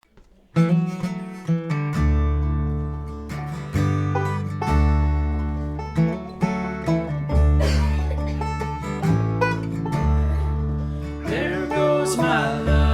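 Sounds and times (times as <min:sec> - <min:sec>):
banjo picking: 0:00.0 - 0:12.9
acoustic guitar picking: 0:00.2 - 0:12.9
bass long low notes: 0:02.0 - 0:12.9.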